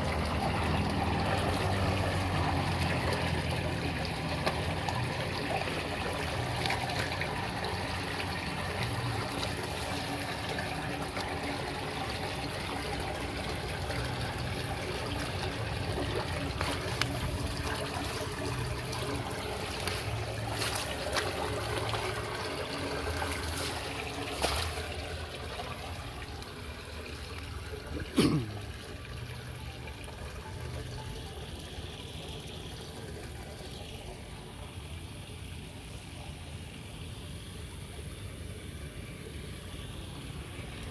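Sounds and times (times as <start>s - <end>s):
water rushing through culvert: 0.0s - 40.9s.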